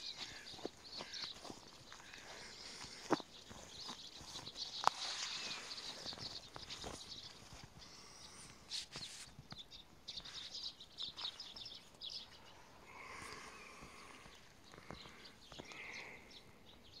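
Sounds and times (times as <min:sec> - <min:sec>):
rustling of branches: 0:00.0 - 0:15.9
faint footsteps: 0:00.0 - 0:16.2.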